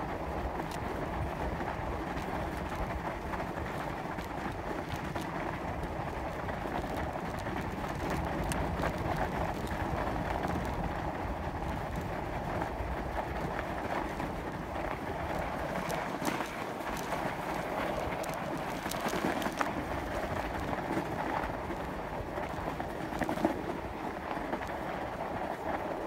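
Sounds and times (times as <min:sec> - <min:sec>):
bike tires rolling on snow: 0:00.0 - 0:26.0
bike clicks and rattles: 0:00.4 - 0:26.0.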